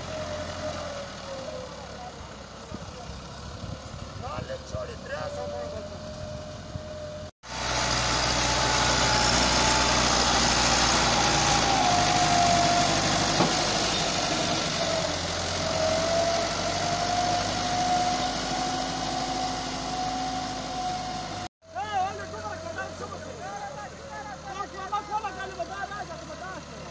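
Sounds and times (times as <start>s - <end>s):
tractor diesel engine straining: 0.0s - 26.9s.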